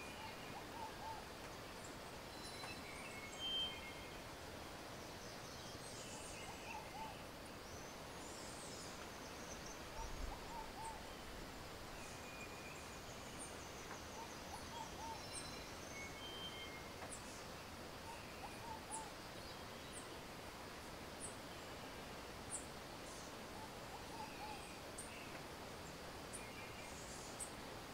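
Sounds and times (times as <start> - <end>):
background hiss: 0.0 - 27.9.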